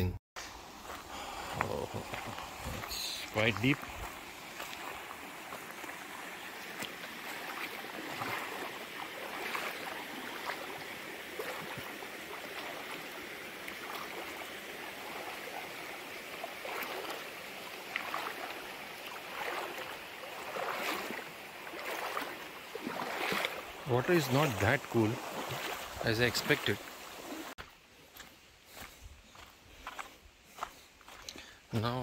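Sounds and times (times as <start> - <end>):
stream water rushing: 0.4 - 28.9
water splashing around wading legs: 0.8 - 27.6.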